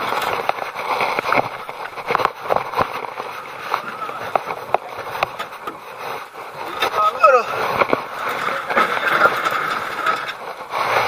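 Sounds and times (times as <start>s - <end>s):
handling noise: 0.0s - 11.0s.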